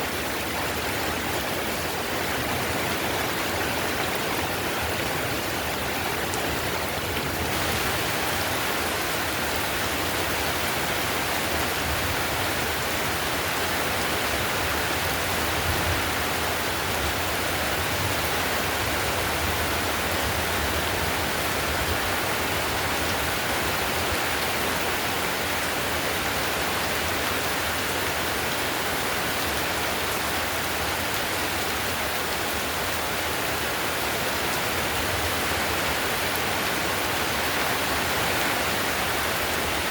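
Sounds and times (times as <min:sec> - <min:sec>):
heavy rain on a tiled roof: 0:00.0 - 0:39.9.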